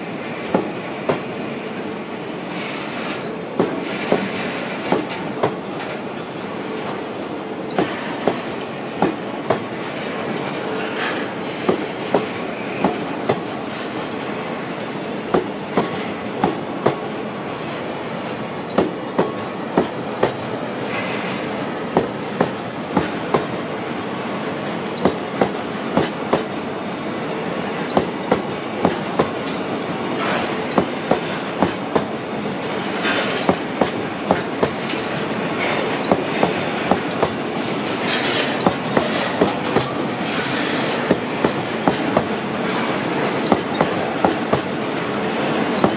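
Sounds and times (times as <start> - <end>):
freight train rumble: 0.0 - 45.9
train wheels clicking over rail joints: 0.4 - 1.5, 2.5 - 45.9.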